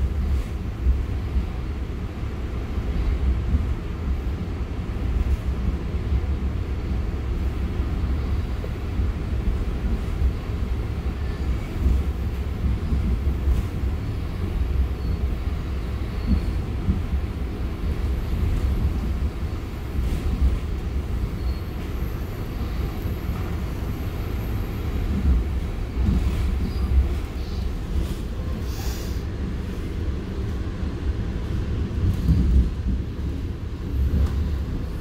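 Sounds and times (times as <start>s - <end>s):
train rumbling inside carriage: 0.0s - 35.0s.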